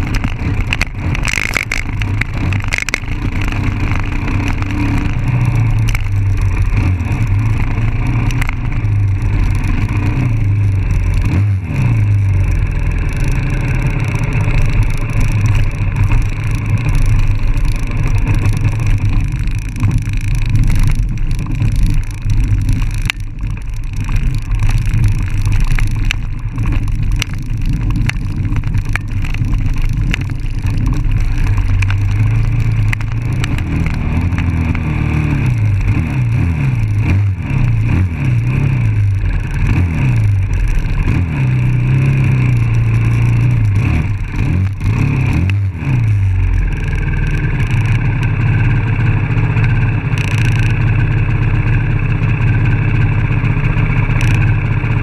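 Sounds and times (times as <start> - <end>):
dirt bike engine revving: 0.0 - 28.4, 29.1 - 49.3.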